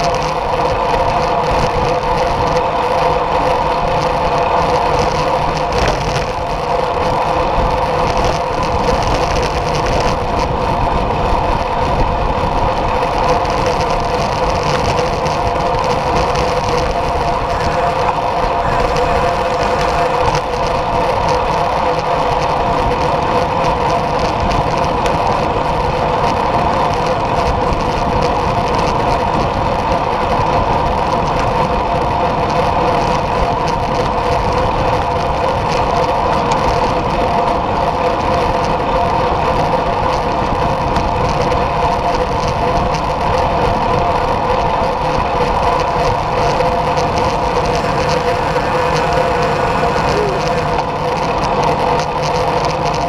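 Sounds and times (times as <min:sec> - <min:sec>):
wind rush: 0:00.0 - 0:38.2, 0:42.3 - 0:53.0
constant hum: 0:00.0 - 0:53.0
road noise: 0:00.0 - 0:53.0.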